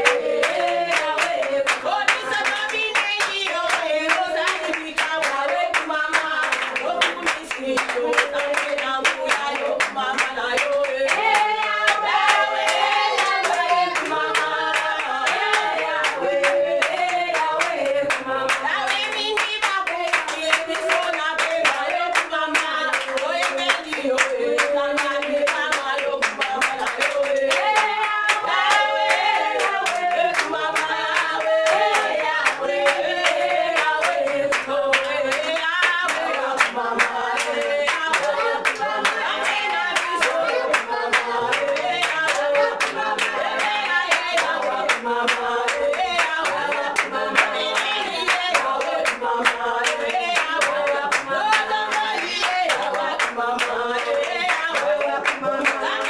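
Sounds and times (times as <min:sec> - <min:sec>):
congregation singing: 0:00.0 - 0:56.0
rhythmic hand clapping: 0:00.0 - 0:56.0.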